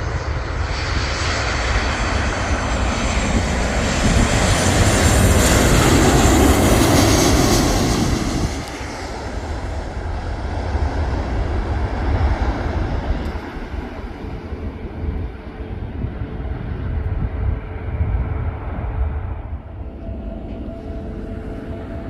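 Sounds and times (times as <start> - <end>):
jet airliner engine roar: 0.0 - 22.0.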